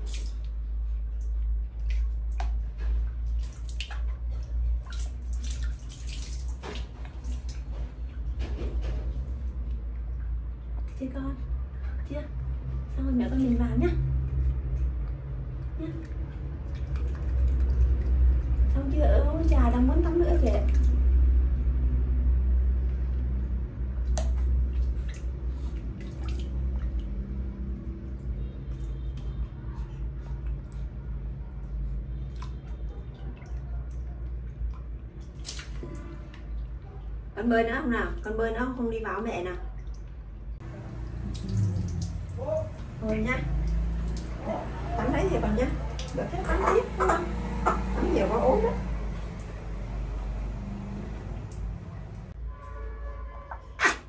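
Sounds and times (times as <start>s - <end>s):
water splashing in a plastic tub: 0.0s - 52.8s.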